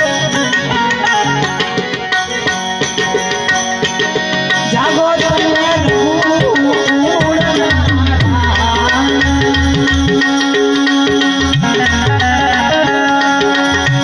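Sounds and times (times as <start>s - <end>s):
harmonium melody: 0.0s - 14.0s
tabla beat: 0.0s - 14.0s.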